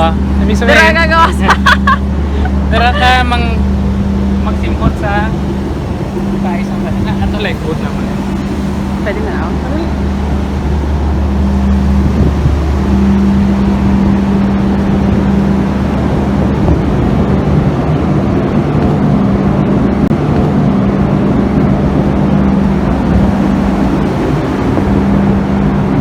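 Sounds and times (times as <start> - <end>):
ship machinery droning: 0.0 - 26.0.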